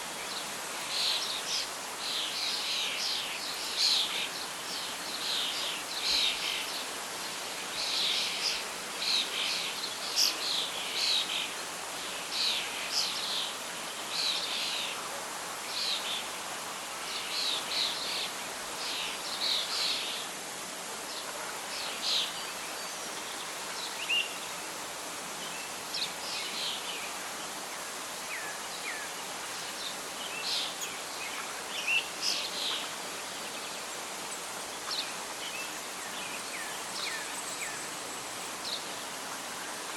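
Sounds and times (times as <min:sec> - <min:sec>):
wind in leaves: 0:00.0 - 0:39.9.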